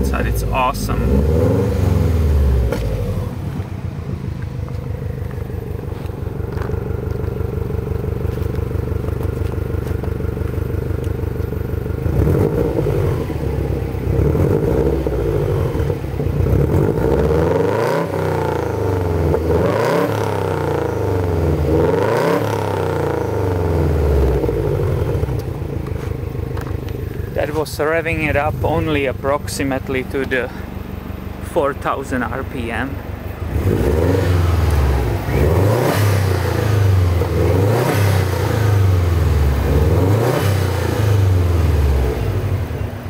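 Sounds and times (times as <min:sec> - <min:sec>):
engine revving: 0:00.0 - 0:10.0, 0:11.9 - 0:30.6, 0:31.6 - 0:43.0
car engine idling: 0:00.0 - 0:43.0.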